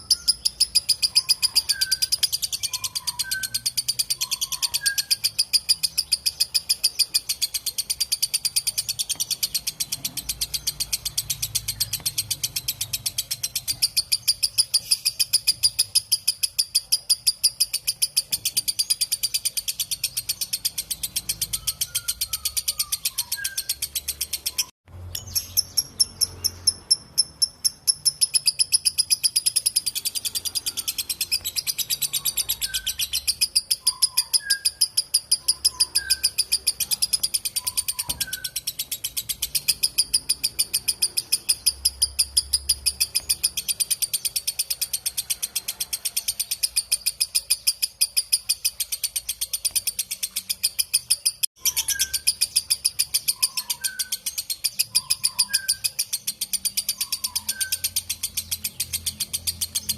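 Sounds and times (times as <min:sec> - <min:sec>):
bird chattering song: 0:00.0 - 0:59.9
faint bird chirps: 0:00.0 - 0:59.9.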